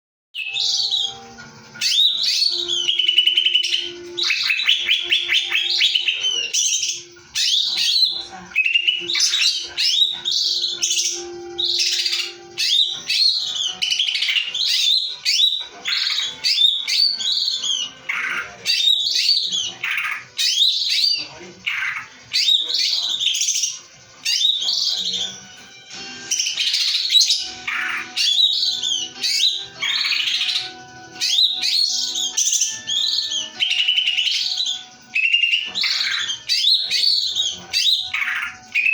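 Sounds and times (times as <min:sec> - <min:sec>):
bird singing trills and whistles: 0:00.4 - 0:38.9.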